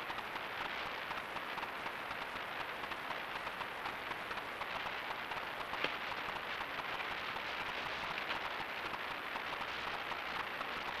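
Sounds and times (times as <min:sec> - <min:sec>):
light rain on fallen leaves: 0:00.0 - 0:11.0.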